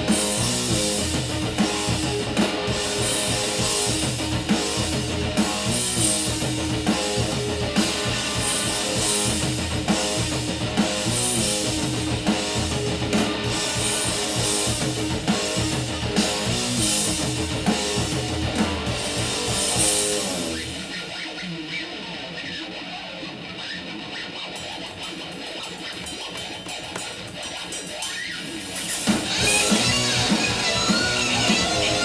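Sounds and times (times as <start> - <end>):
drum kit beat: 0.0 - 22.8, 23.4 - 32.0
guitar riff: 0.0 - 32.0.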